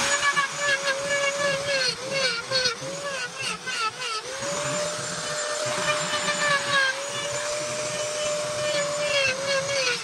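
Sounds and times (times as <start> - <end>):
power carving tool whine: 0.0 - 10.0
wood being ground hiss: 0.0 - 10.0.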